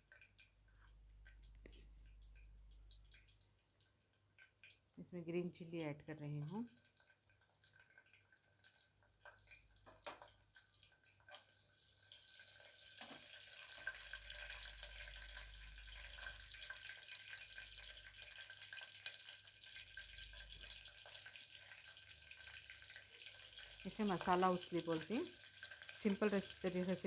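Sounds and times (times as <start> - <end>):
spices sizzling in hot oil: 0.0 - 27.0.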